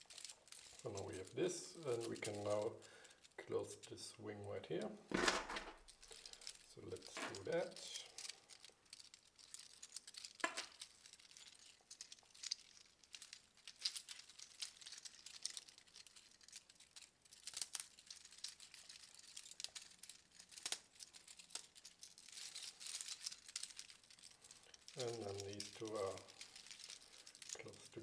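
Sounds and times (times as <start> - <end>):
plastic links clicking and rattling: 0.0 - 4.0, 4.7 - 28.0.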